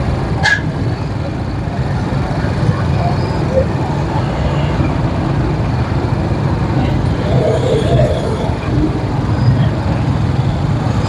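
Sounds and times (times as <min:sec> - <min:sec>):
people talking in street: 0:00.0 - 0:11.0
traffic engines rumbling: 0:00.0 - 0:11.0.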